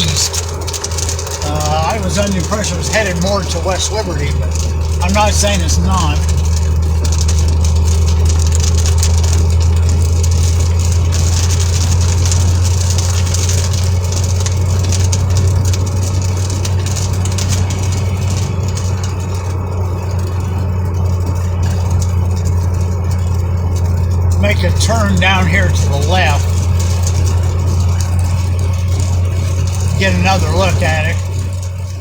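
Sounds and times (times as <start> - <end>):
engine and road noise drone: 0.0 - 32.0.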